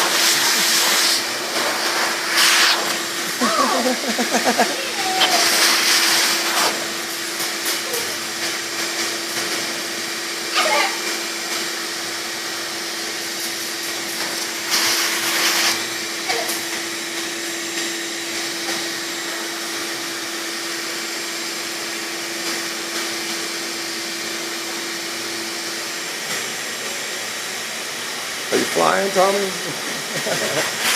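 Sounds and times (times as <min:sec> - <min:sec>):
vacuum blowing air: 0:00.0 - 0:30.9.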